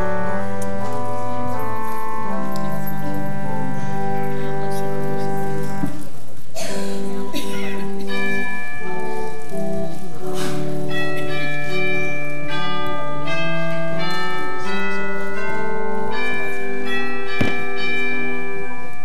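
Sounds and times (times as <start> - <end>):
organ playing sustained chords: 0.0 - 6.1, 7.0 - 19.0.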